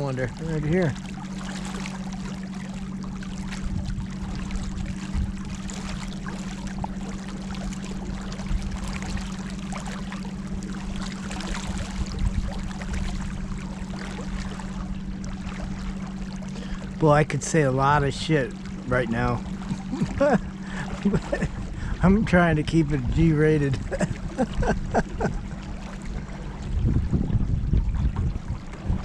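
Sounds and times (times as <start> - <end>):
boat motor humming: 0.0 - 29.0
water washing: 0.0 - 29.0.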